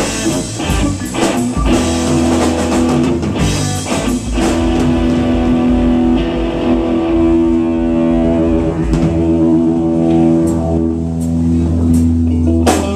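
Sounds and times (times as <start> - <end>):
bass guitar: 0.0 - 12.9
electric guitar through amplifier: 0.0 - 12.9.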